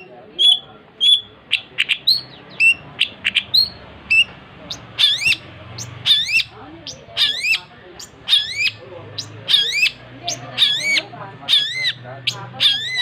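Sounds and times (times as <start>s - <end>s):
bird singing: 0.0s - 13.0s.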